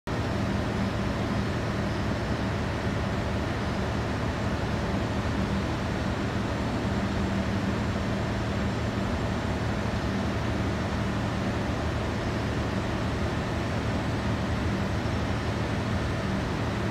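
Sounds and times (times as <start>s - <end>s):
street noise drone: 0.1s - 16.9s.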